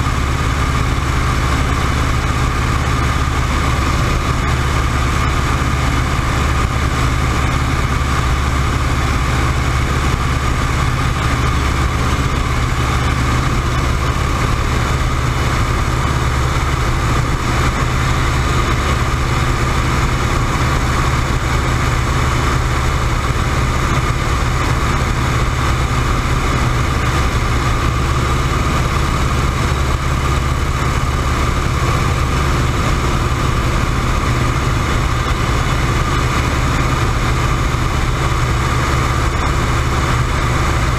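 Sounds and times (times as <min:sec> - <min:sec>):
radial aircraft engine and propeller: 0:00.0 - 0:40.9
slipstream rushing: 0:00.0 - 0:40.9.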